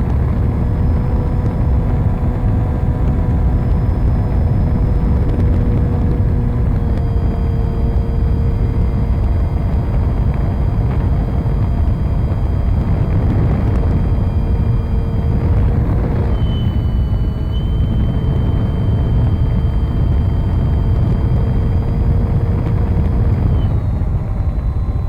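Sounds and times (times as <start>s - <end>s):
motor and propeller whine: 0.0s - 25.0s
wind rush on microphone: 0.0s - 25.0s.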